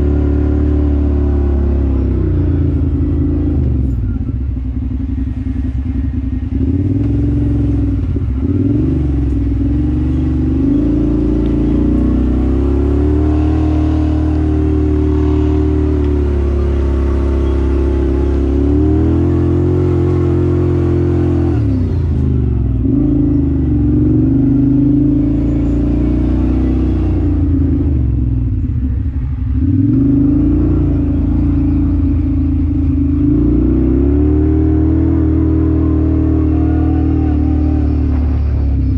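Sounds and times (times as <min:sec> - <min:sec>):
vehicle engine revving under load: 0:00.0 - 0:38.9.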